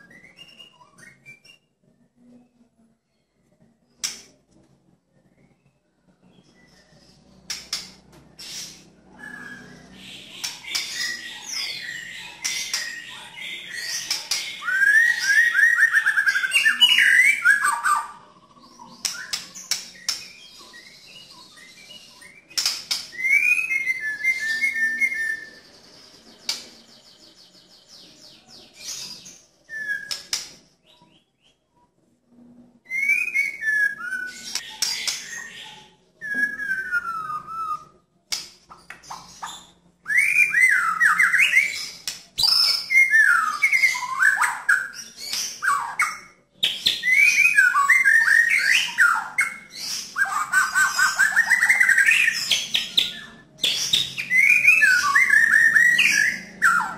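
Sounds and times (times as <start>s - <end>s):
bird singing whistles and trills: 0.0s - 2.6s, 5.2s - 31.8s, 32.8s - 38.0s, 38.8s - 56.9s.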